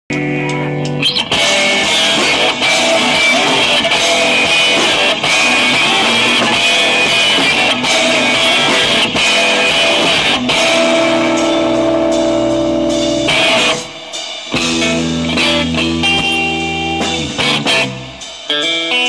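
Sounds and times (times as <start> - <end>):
live rock band playing: 0.1 - 19.0.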